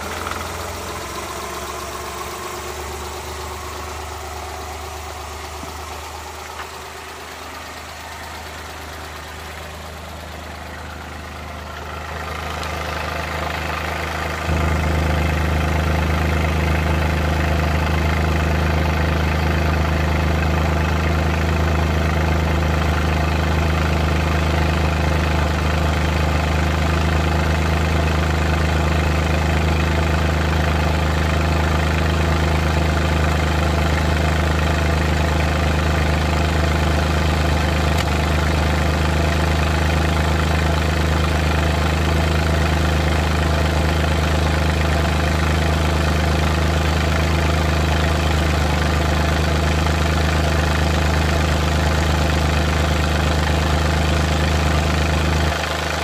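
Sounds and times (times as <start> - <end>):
engine running at tailpipe: 0.0 - 56.0
exhaust misfires: 0.0 - 56.0.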